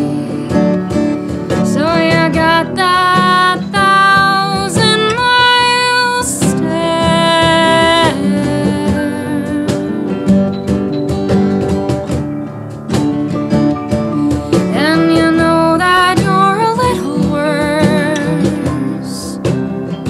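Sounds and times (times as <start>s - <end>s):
acoustic guitars: 0.0s - 20.0s
live country blues band: 0.0s - 20.0s
sliding lead melody: 0.0s - 20.0s.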